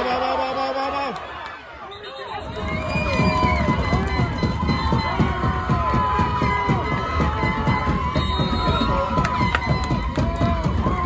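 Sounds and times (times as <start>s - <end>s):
crowd shouting and cheering: 0.0s - 11.0s.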